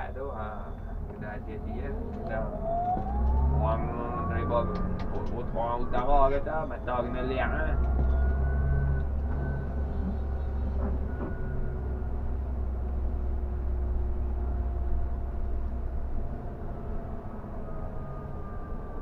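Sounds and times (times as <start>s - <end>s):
bus engine drone: 0.0s - 19.0s.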